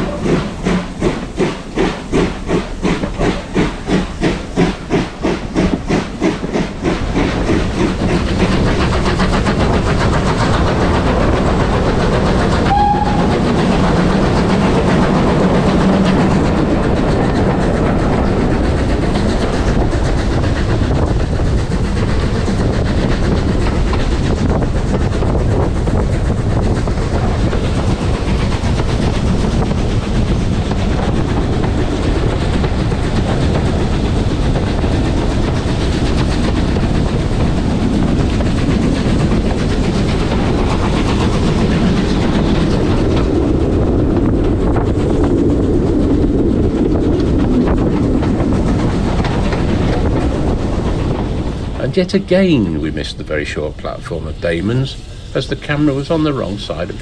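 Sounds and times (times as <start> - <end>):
clickety-clack of rail joints: 0.0 - 57.0
train wheels rumbling on rails: 0.0 - 57.0.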